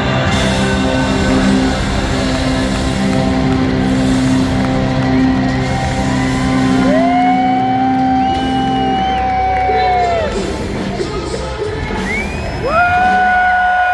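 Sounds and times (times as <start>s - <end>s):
live rock band playing loud: 0.0s - 13.9s.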